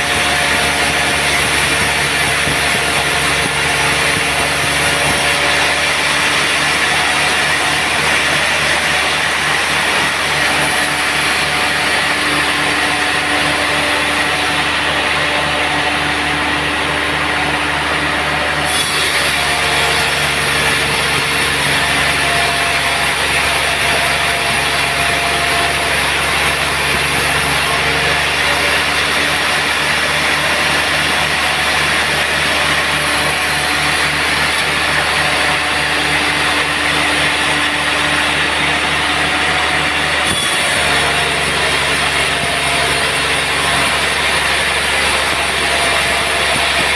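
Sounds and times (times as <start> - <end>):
saw cutting through log: 0.0 - 46.9
sawmill engine droning: 0.0 - 46.9.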